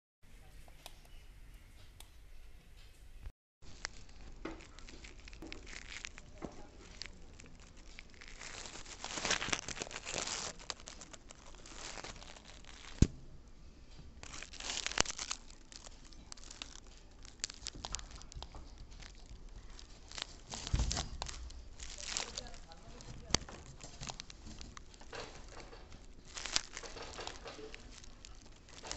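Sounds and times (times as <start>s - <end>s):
straw rustling and crackling: 3.6s - 28.9s.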